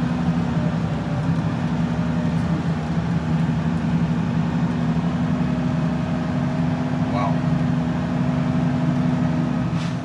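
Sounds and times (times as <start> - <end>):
diesel truck engine droning: 0.0 - 10.0.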